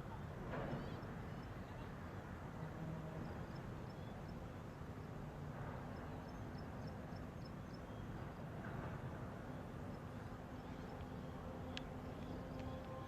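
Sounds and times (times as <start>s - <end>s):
kite flute low steady tones: 0.0s - 13.0s.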